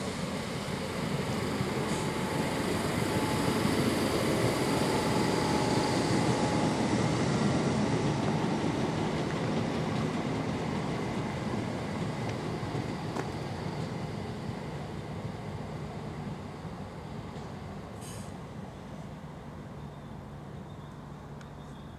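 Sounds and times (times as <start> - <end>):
faint train whine: 0.0 - 21.9
train wheels rumbling on rails: 0.0 - 21.9.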